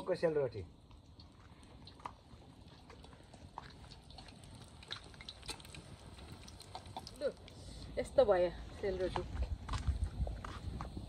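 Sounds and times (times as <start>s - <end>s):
batter frying in hot oil: 0.0s - 9.0s
crackling and popping oil: 0.0s - 11.0s.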